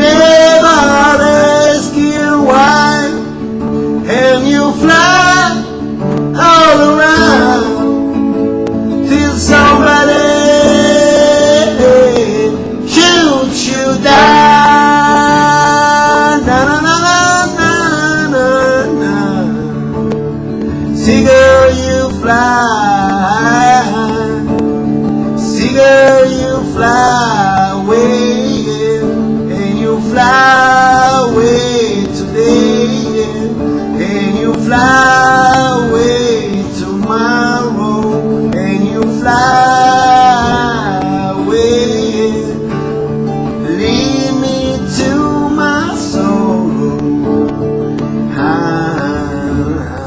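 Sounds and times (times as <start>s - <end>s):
acoustic guitar accompaniment: 0.0s - 50.0s
man singing: 0.0s - 50.0s.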